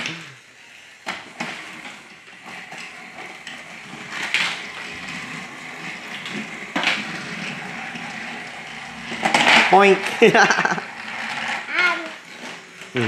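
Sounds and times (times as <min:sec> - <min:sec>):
toy train whirring rattle: 0:00.0 - 0:13.0.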